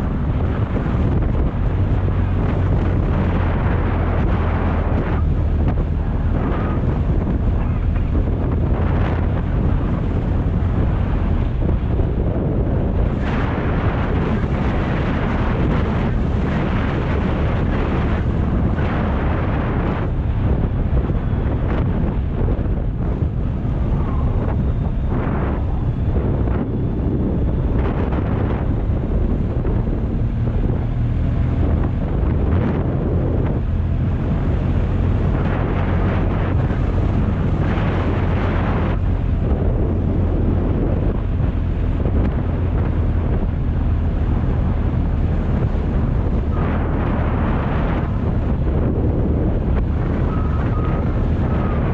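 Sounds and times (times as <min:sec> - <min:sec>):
motorcycle engine droning: 0:00.0 - 0:51.9
wind rushing over microphone: 0:00.0 - 0:51.9.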